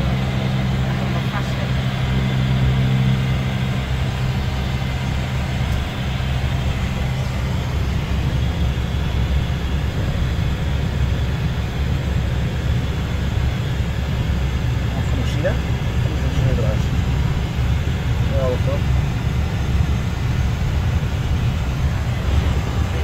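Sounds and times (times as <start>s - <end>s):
turboprop engine droning: 0.0s - 23.0s.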